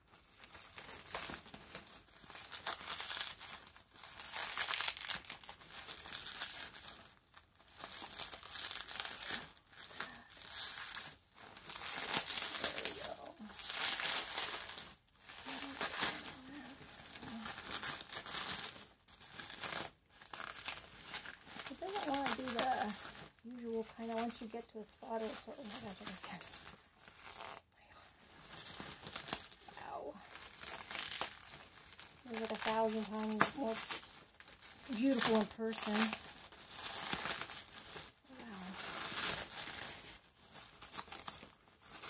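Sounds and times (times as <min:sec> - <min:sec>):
bubble wrap crinkling: 0:00.0 - 0:42.0.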